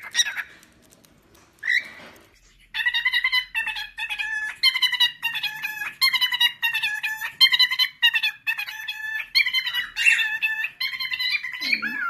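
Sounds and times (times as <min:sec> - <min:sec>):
cockatiel chirping and warbling: 0:00.0 - 0:00.9, 0:01.5 - 0:12.0.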